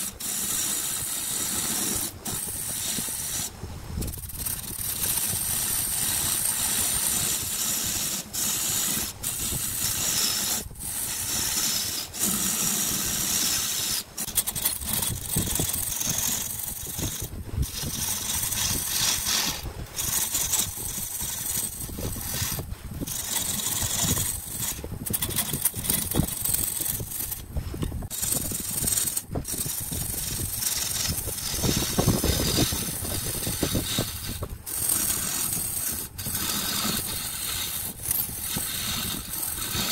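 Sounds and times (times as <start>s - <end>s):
gouge cutting spinning wood: 0.0s - 39.9s
wood lathe running: 4.4s - 27.4s, 28.1s - 39.9s.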